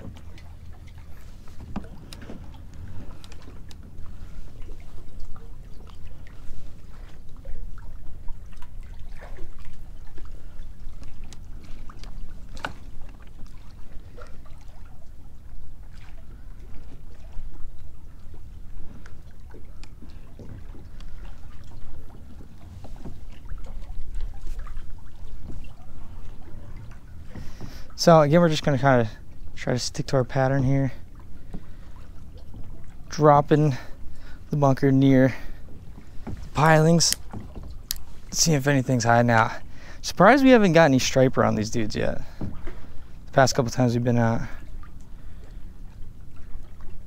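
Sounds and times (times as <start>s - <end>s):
small splashes and ticks: 0.0s - 47.0s
waves lapping against kayak hull: 0.0s - 47.0s.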